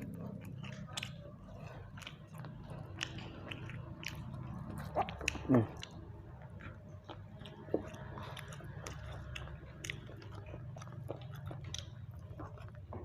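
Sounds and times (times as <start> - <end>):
chewing with wet mouth clicks: 0.0 - 13.0
steady low hum: 0.0 - 13.0.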